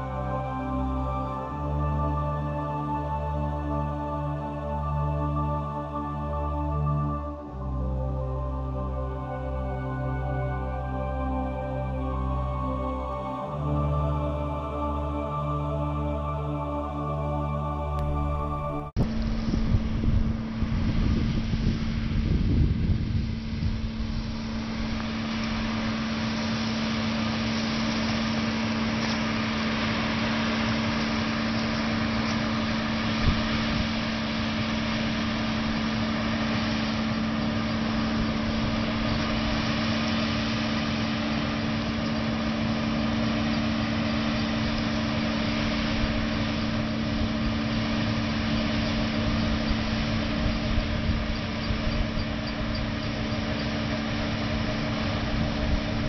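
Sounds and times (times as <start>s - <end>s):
harvester engine droning: 0.0s - 56.0s.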